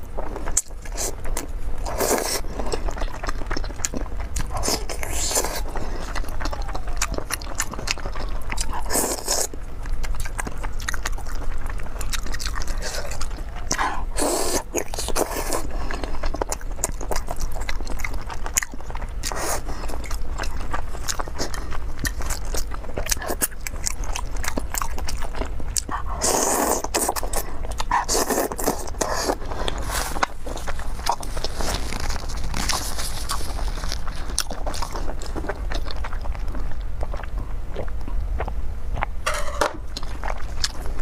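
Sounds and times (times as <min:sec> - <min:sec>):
wet chewing and biting: 0:00.0 - 0:41.0.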